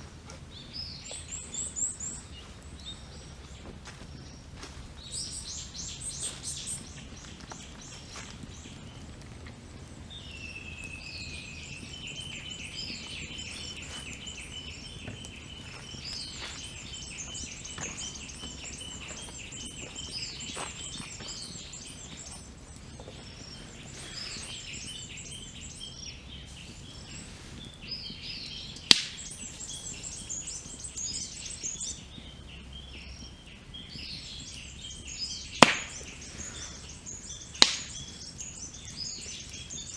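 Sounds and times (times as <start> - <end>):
birds singing and calling: 0.0 - 39.9
campfire crackling: 0.0 - 39.9.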